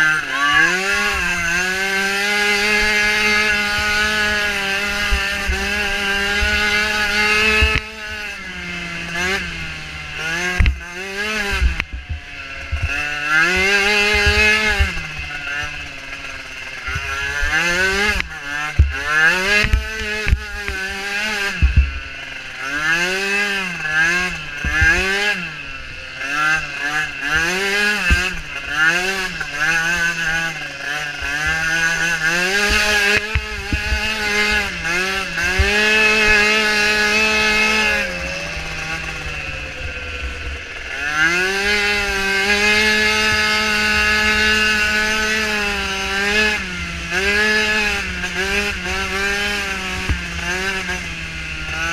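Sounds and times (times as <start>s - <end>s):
small engine revving: 0.0s - 51.9s.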